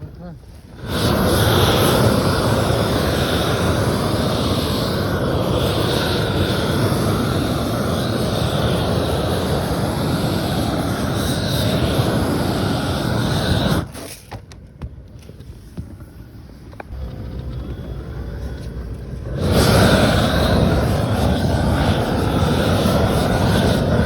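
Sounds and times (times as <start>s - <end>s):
roofing torch flame rushing: 0.0s - 14.3s, 15.5s - 24.0s.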